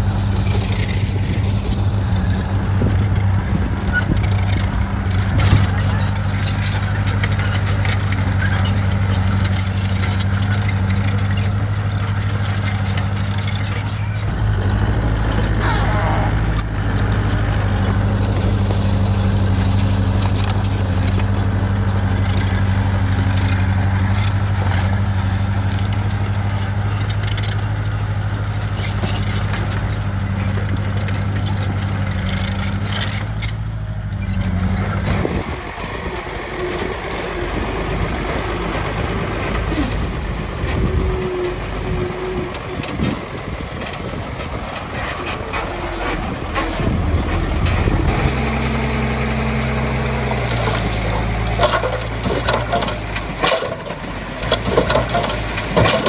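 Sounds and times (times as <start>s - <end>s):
metallic clanks and rattles: 0.0s - 36.2s, 41.8s - 56.0s
bulldozer diesel engine running: 0.0s - 56.0s.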